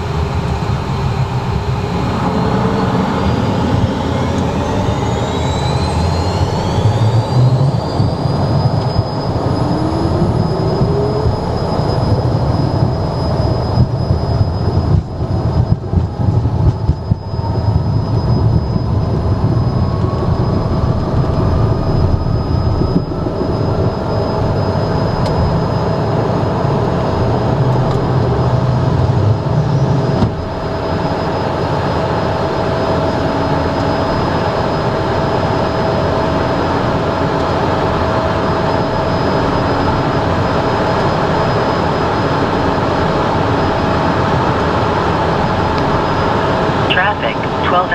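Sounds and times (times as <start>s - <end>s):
climbing engine tone: 0.0s - 47.9s
deep engine rumble: 0.0s - 47.9s
jet engines whining: 0.0s - 47.9s.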